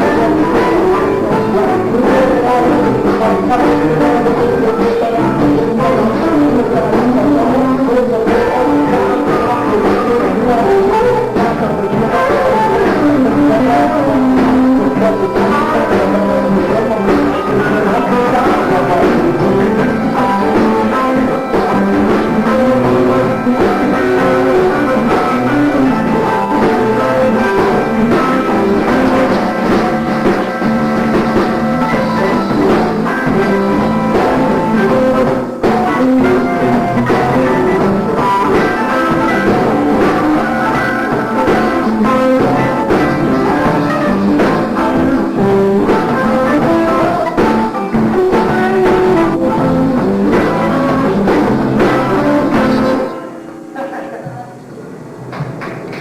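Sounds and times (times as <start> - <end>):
live band playing funk: 0.0 - 53.2.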